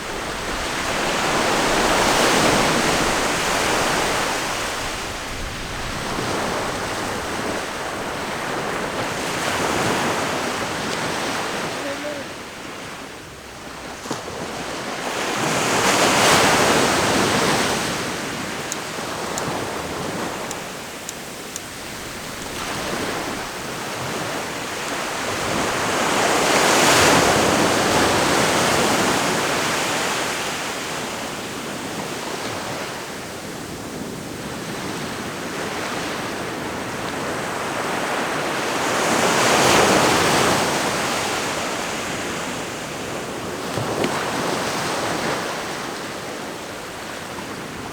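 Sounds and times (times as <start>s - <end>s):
ocean waves crashing on shore: 0.0s - 47.9s.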